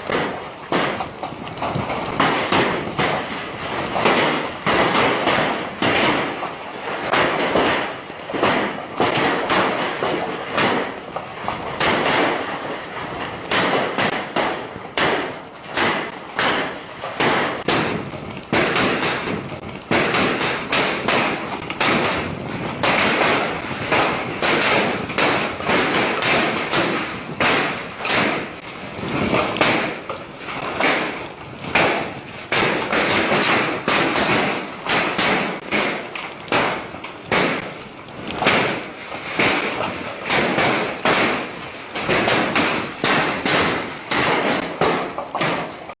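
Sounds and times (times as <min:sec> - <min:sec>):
heavy hail clattering: 0:00.0 - 0:46.0.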